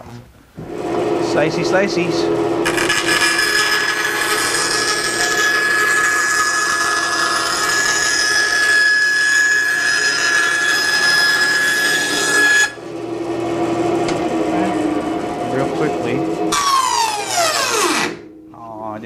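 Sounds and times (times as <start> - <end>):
bandsaw cutting wood: 0.6 - 18.3.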